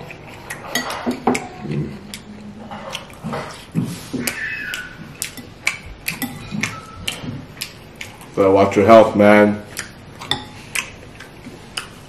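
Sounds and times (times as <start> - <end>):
chewing and slurping: 0.0 - 8.4, 9.6 - 12.0.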